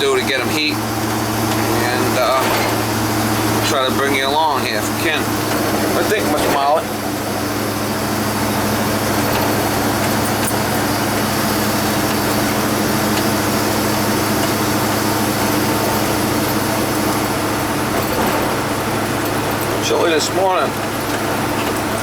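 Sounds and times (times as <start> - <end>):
road noise hiss: 0.0 - 22.0
vehicle engine hum: 0.0 - 22.0.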